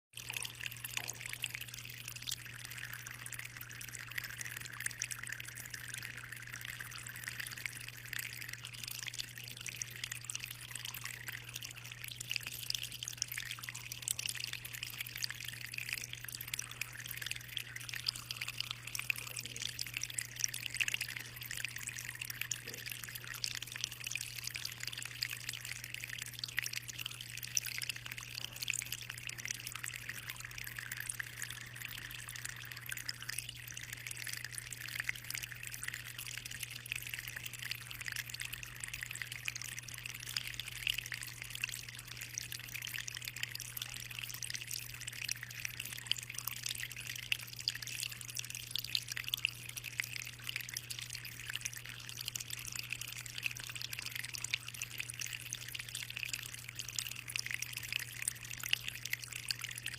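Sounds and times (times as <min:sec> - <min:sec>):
aquarium water trickling: 0:00.1 - 0:59.9
fine dripping: 0:00.1 - 0:59.9.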